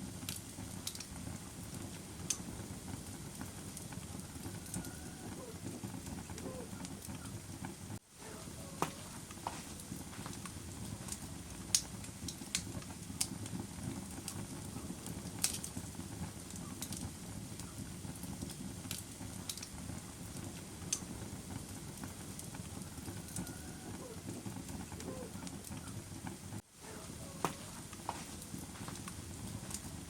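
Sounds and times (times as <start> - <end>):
burning wood crackling and popping: 0.0 - 30.0
campfire flame rushing: 0.0 - 30.0.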